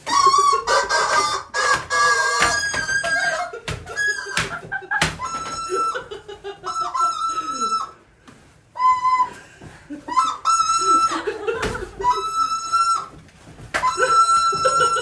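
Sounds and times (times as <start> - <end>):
rubber chicken toys squawking: 0.0 - 8.0, 10.1 - 13.2, 13.8 - 15.0.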